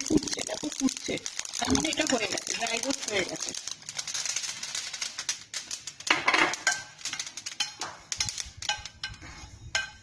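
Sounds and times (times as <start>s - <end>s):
seeds crackling: 0.0s - 8.9s
spoon stirring seeds in metal pan: 0.0s - 10.0s.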